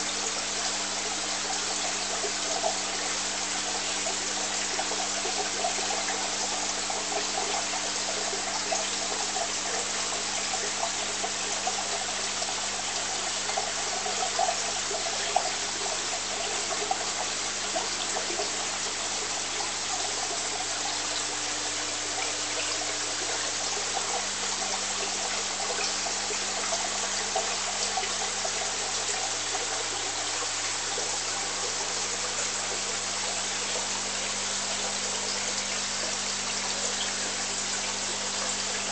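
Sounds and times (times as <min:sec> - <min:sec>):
pump humming: 0:00.0 - 0:38.9
water trickling and splashing: 0:00.0 - 0:38.9.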